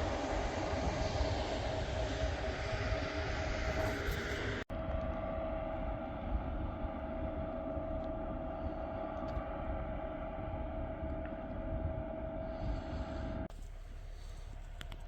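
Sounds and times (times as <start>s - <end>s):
high-pitched whine: 0.0s - 13.5s
heavy vehicle engine rumbling: 0.0s - 15.0s.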